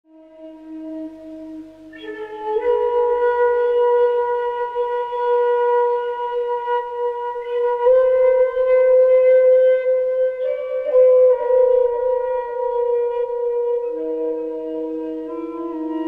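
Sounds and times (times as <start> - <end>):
slow flute music: 0.1 - 16.0.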